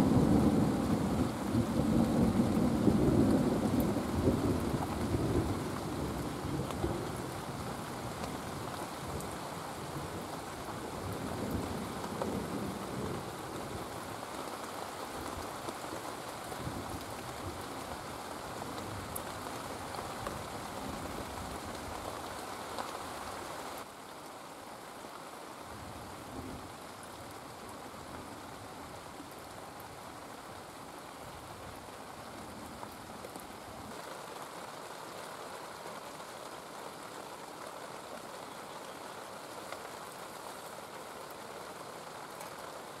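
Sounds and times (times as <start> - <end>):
heavy rain falling: 0.0 - 43.0.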